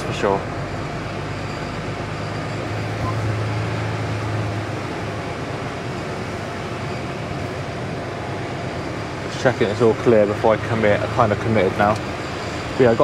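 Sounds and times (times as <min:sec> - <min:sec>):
lorry diesel engine running: 0:00.0 - 0:13.0.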